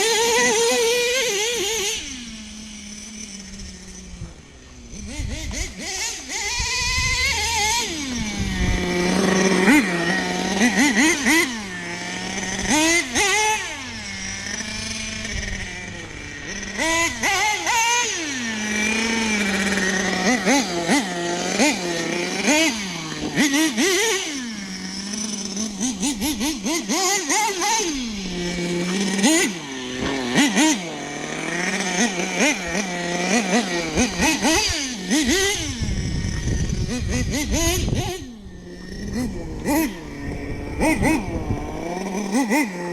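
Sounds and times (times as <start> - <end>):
model truck engine revving: 0.0 - 42.9.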